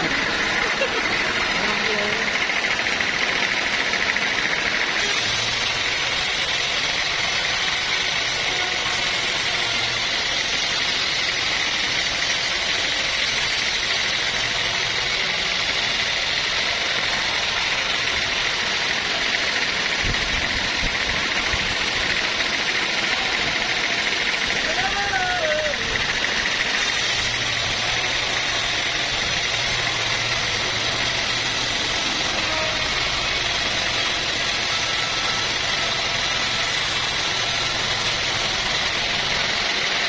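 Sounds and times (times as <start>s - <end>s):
sawmill machinery running: 0.0s - 40.0s
high hiss: 4.8s - 40.0s.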